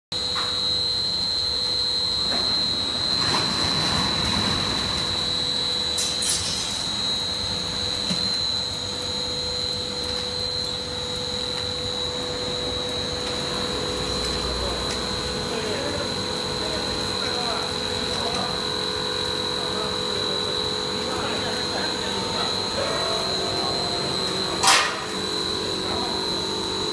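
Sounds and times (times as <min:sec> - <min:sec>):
high-pitched whine: 0:00.2 - 0:26.9
machine drone of motors and blower: 0:00.2 - 0:26.9.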